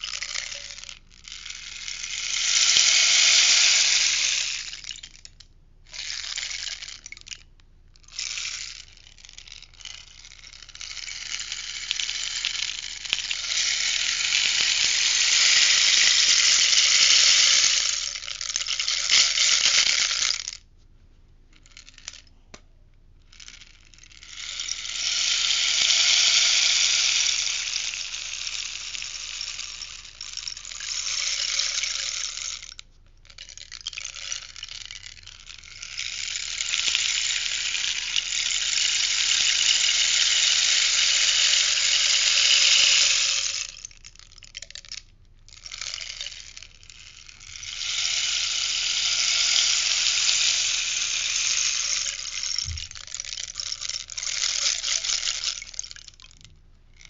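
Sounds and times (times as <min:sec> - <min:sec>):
rainstick pattering: 0:00.0 - 0:20.6, 0:21.6 - 0:22.6, 0:23.2 - 0:57.0.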